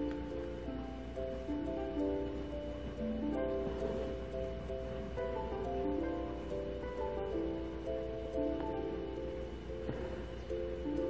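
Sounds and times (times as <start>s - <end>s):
music of long held notes: 0.0s - 11.0s.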